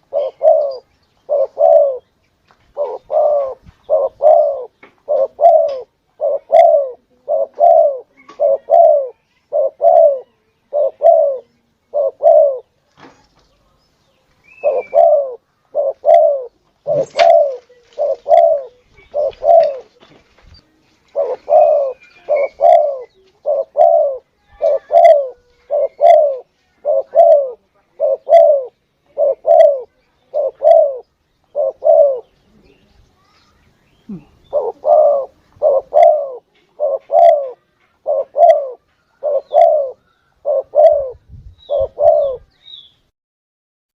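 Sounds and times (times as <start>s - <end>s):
dove cooing: 0.0s - 2.1s, 2.7s - 12.8s, 14.5s - 20.2s, 21.0s - 32.8s, 34.0s - 42.5s.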